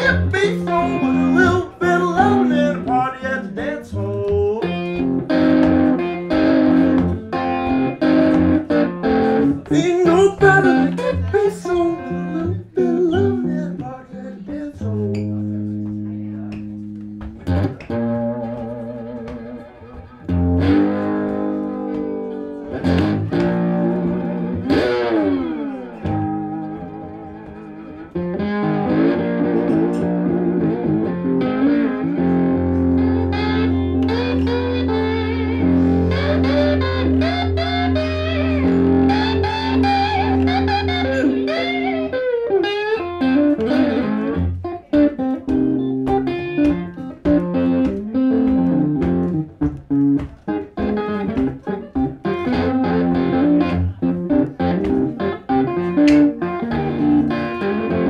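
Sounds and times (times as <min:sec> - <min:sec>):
electric guitar blues: 0:00.0 - 0:58.0.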